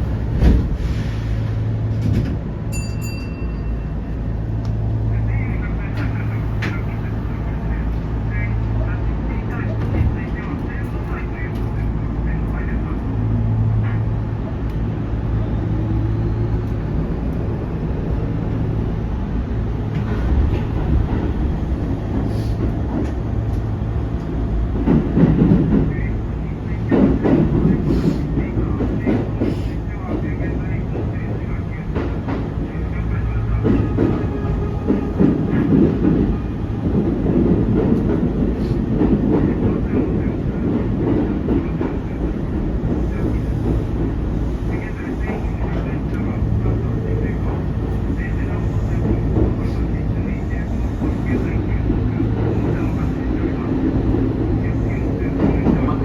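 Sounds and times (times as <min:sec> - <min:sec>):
clickety-clack over rail joints: 0:00.0 - 0:03.4, 0:04.5 - 0:18.6, 0:19.5 - 0:56.0
train wheels rumbling on rail: 0:00.0 - 0:56.0.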